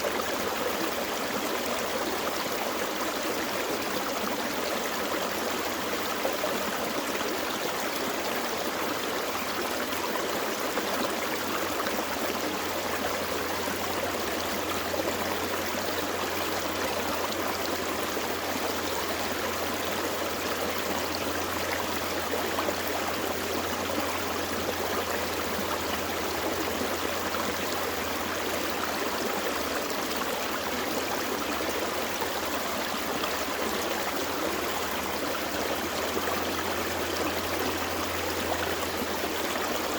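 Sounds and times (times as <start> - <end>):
creek water gurgling over rocks: 0.0 - 39.9.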